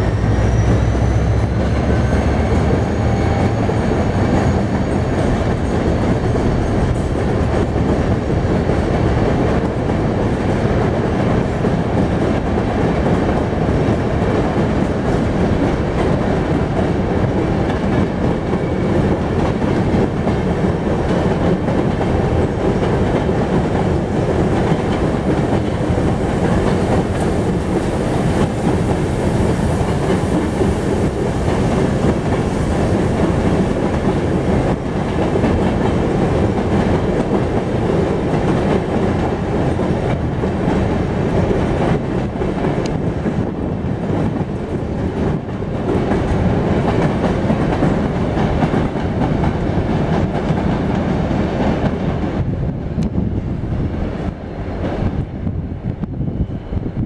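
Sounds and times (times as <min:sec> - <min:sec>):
freight train rolling past: 0:00.0 - 0:57.0
train wheels on rails: 0:00.0 - 0:57.0.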